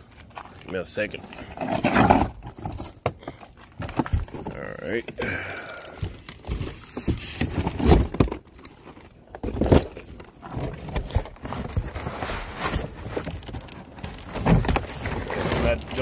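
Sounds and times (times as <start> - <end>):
packaging rustling and scraping: 0.0 - 5.0, 5.6 - 16.0.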